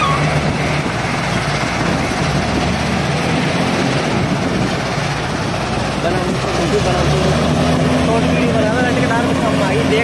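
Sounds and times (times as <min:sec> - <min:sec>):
wheel loader diesel engine: 0:00.0 - 0:10.0.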